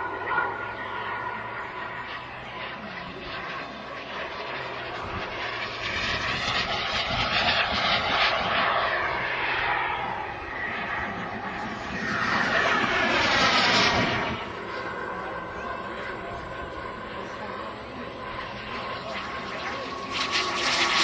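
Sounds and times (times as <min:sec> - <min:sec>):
model jet engine roar and whine: 0:00.0 - 0:21.0.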